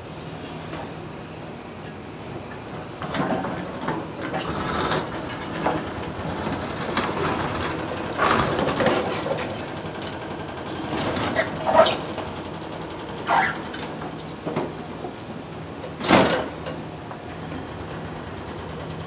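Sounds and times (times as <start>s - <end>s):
excavator diesel hum: 0.1s - 19.0s.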